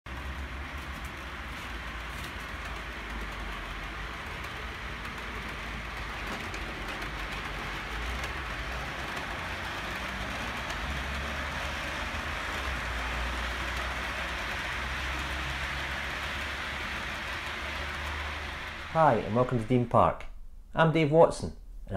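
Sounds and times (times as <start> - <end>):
model train rolling: 0.1 - 20.0.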